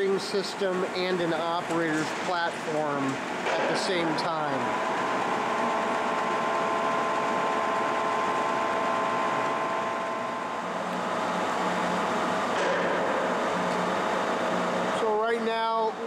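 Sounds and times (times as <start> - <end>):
lathe machine hum and hiss: 0.0 - 16.0.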